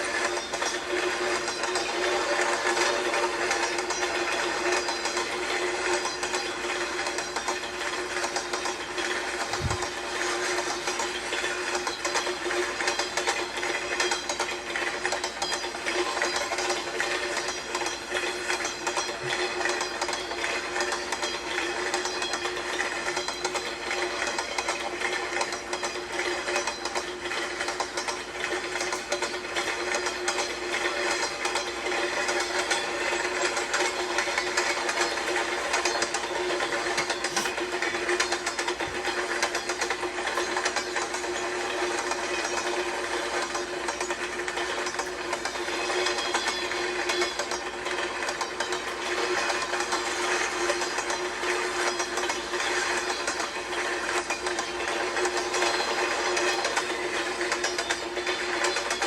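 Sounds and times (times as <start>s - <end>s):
train wheels clattering over rails: 0.0s - 59.0s.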